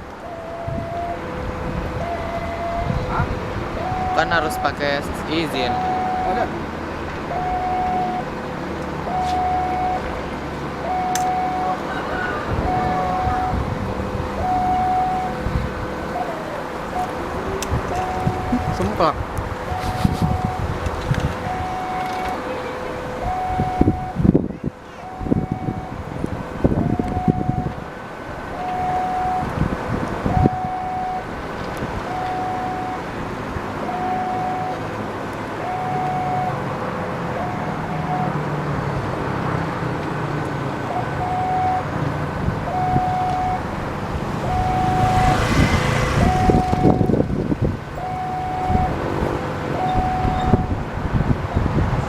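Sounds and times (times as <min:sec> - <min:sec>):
level-crossing siren alternating tones: 0:00.0 - 0:27.9, 0:28.5 - 0:31.4, 0:32.0 - 0:38.5, 0:40.3 - 0:50.8
road traffic rumble: 0:00.0 - 0:52.0
wind: 0:00.0 - 0:52.0.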